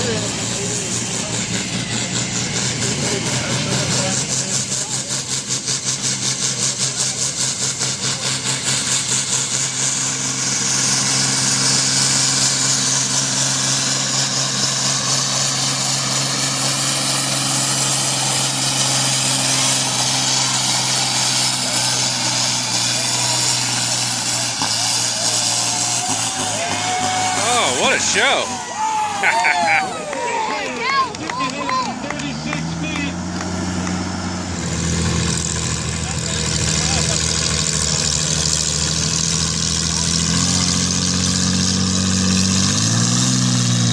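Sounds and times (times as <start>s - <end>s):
tractor engine revving: 0.0s - 43.9s.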